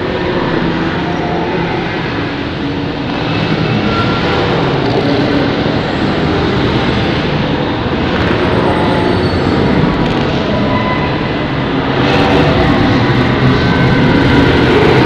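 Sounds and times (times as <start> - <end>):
electronic drone: 0.0 - 15.0.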